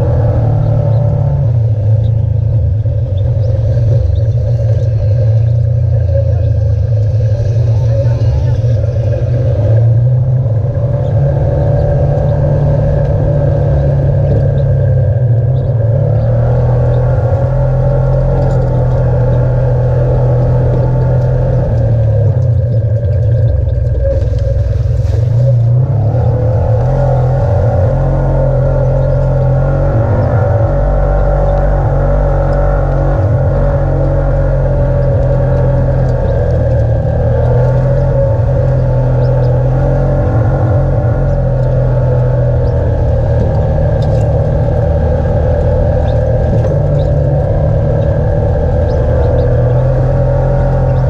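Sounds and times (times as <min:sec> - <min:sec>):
off-road vehicle engine running: 0:00.0 - 0:51.0.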